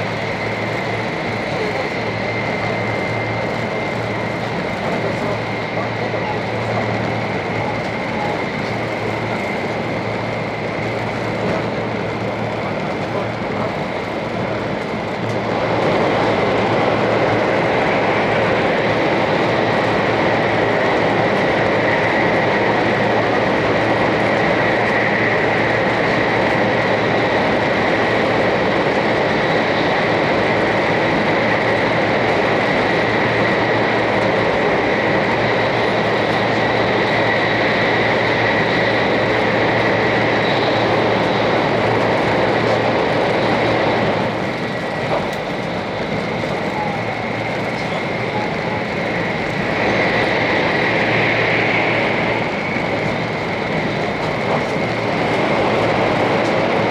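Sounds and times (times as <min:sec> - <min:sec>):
train interior rushing roar: 0:00.0 - 0:56.9.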